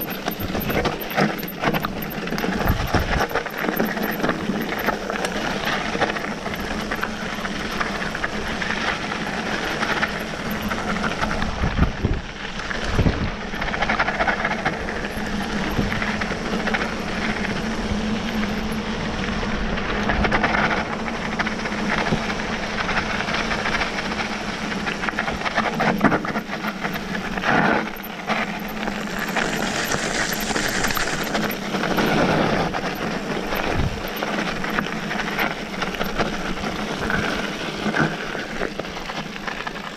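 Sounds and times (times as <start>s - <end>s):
bike rattling: 0.0s - 39.9s.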